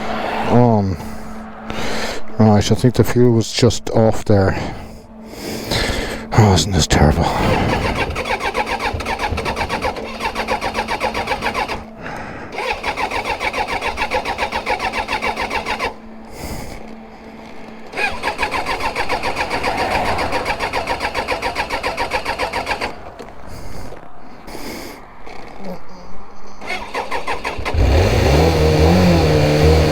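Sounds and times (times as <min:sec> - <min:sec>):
electric starter cranking engine: 0:04.6 - 0:25.6, 0:26.6 - 0:29.9.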